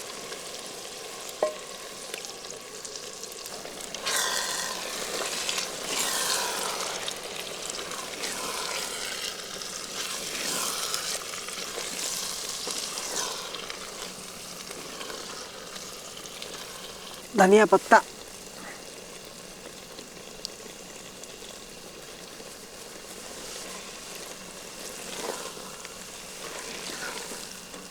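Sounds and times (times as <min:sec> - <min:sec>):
potatoes sizzling in a pan: 0:00.0 - 0:27.9.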